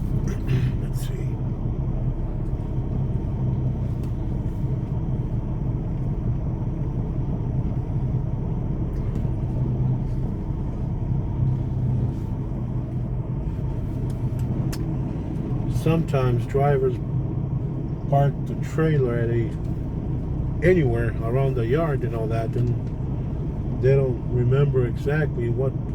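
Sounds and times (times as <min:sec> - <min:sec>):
diesel truck engine rumbling: 0:00.0 - 0:25.9.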